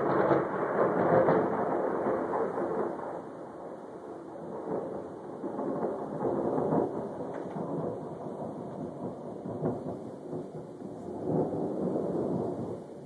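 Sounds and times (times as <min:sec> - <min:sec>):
rolling thunder: 0:00.0 - 0:13.0.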